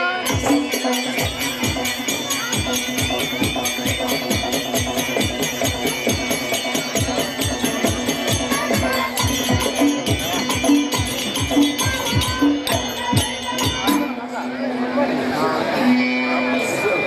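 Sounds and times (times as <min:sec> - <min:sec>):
bright jingling: 0:00.3 - 0:14.2.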